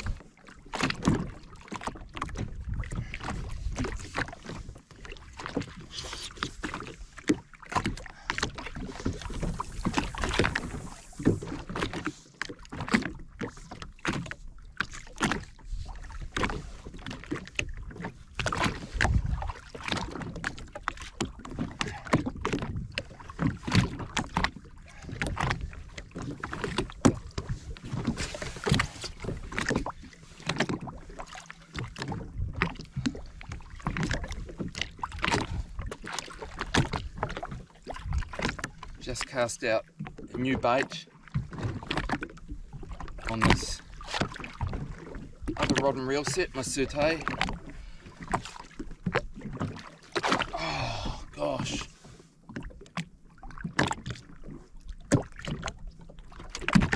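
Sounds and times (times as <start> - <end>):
water lapping at hull: 0.0 - 56.9.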